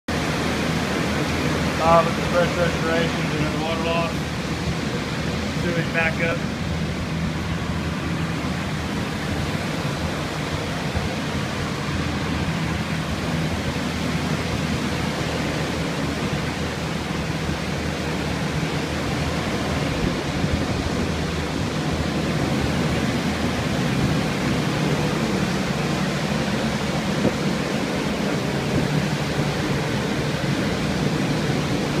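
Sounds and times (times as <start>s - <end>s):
air movers rushing and humming: 0.1s - 32.0s.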